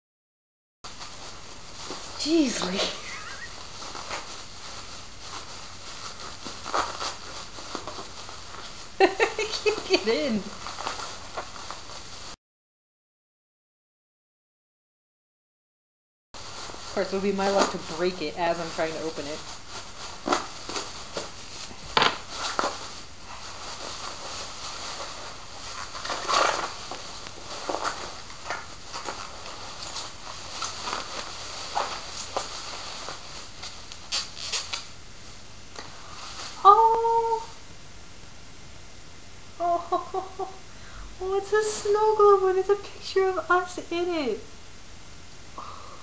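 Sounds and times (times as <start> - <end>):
bubble wrap crackling: 0.9 - 12.4, 16.4 - 37.6, 39.6 - 44.4.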